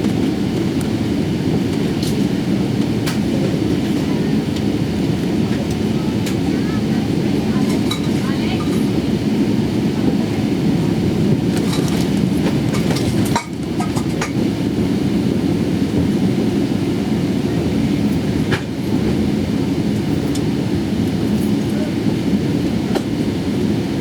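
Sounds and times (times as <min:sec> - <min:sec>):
aircraft cabin low rumble: 0:00.0 - 0:24.0.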